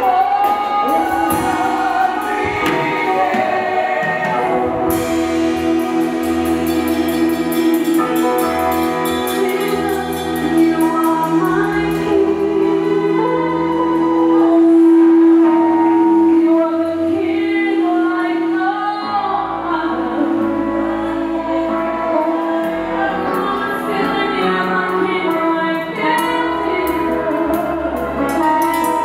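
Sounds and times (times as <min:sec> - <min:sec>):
band with guitar and keyboard: 0:00.0 - 0:29.0
woman singing into a microphone: 0:00.0 - 0:29.0.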